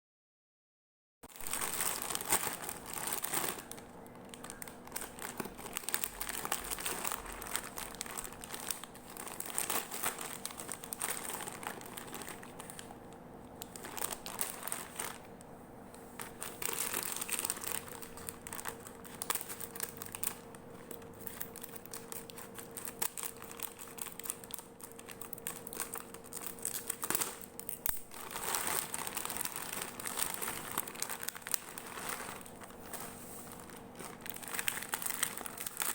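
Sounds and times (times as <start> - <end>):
cookies crinkling and crackling: 1.3 - 35.9
faint steady hum: 1.3 - 35.9.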